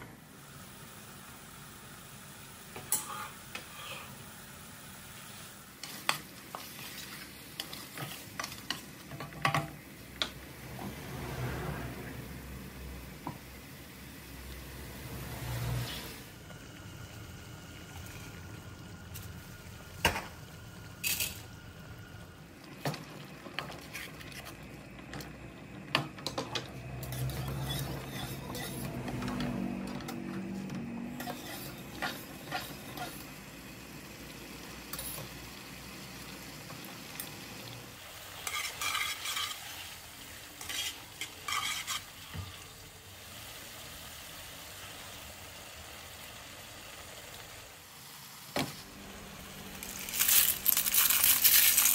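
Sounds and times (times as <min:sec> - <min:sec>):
pasta sizzling in frying pan: 0:00.2 - 0:51.9.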